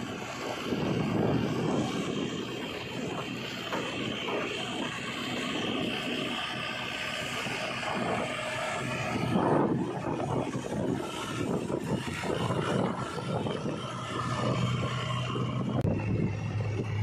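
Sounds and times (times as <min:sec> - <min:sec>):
backhoe loader diesel engine: 0:00.0 - 0:17.0.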